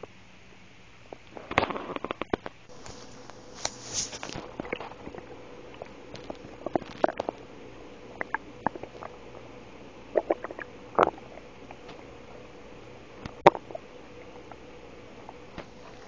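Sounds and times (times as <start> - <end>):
stomach gurgling: 1.2 - 12.5, 13.1 - 16.0.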